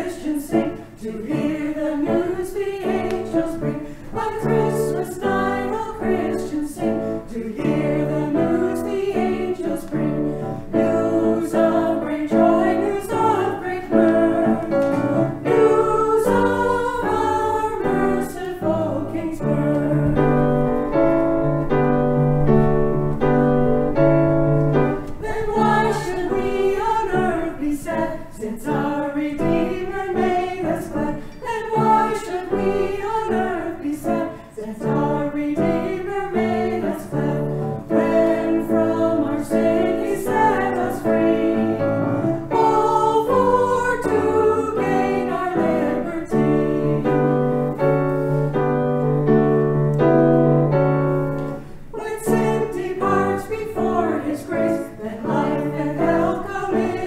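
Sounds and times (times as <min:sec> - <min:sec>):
women singing: 0:00.0 - 0:20.7, 0:24.8 - 0:48.0, 0:51.9 - 0:57.0
piano accompaniment: 0:00.0 - 0:57.0.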